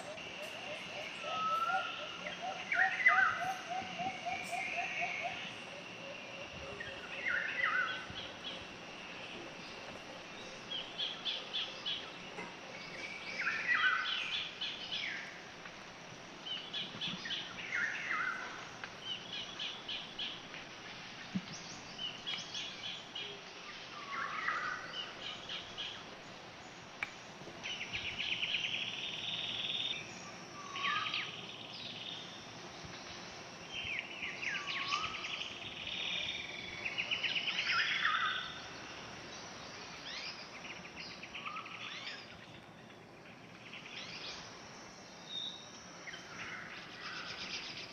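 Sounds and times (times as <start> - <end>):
faint steady hiss: 0.0 - 47.9
songbirds chirping: 0.0 - 47.9.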